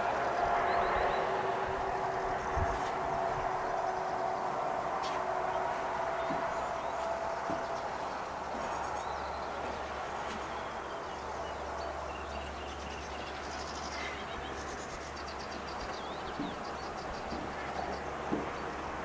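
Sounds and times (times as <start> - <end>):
soft background rush: 0.0 - 19.0
steady low hum: 0.0 - 19.0
small birds chirping: 2.2 - 19.0.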